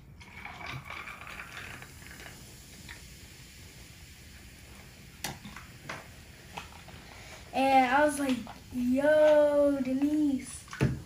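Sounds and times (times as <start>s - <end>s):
fizzy soda pouring into glass: 0.0s - 11.0s.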